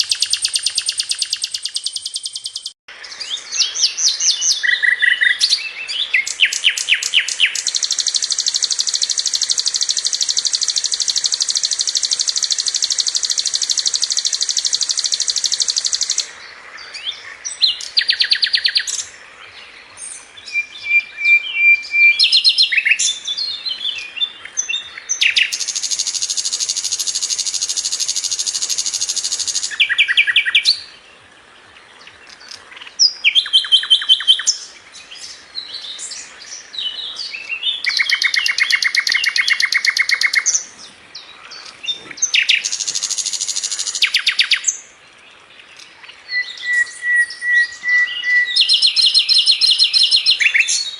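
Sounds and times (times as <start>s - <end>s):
bird singing rolling trills: 0.0s - 50.9s.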